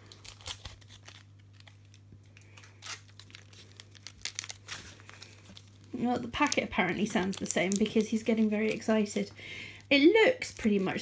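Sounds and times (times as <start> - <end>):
plastic wrapper crinkling and tearing: 0.0 - 9.3
low steady hum: 0.0 - 11.0.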